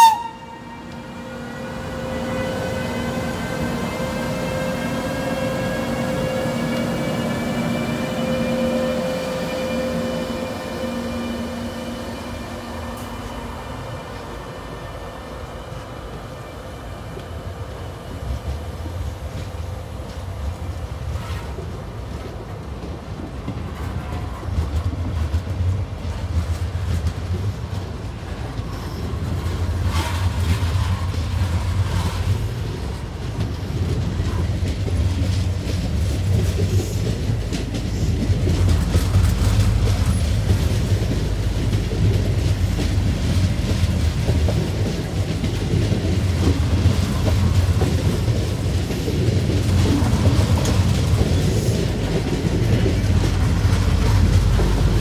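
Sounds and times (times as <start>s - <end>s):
train coaches rumbling past: 0.0s - 55.0s.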